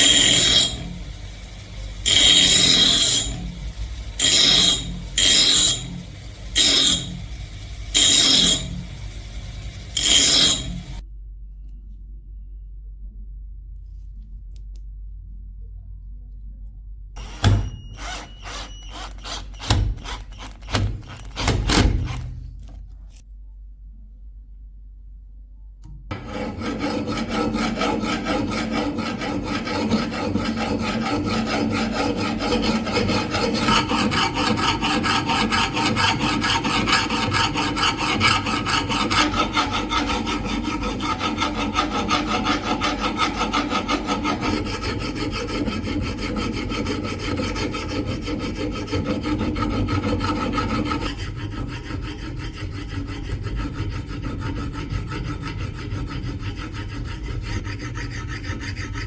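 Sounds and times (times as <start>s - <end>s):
abrasive rasping on steel blade: 0.0s - 11.0s, 17.2s - 21.3s, 26.1s - 59.0s.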